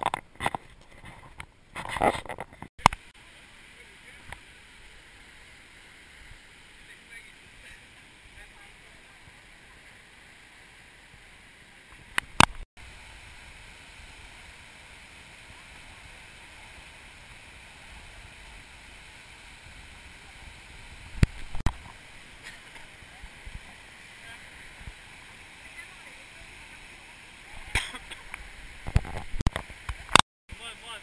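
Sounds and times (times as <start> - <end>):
stream and waterfall rushing: 2.9 - 31.0.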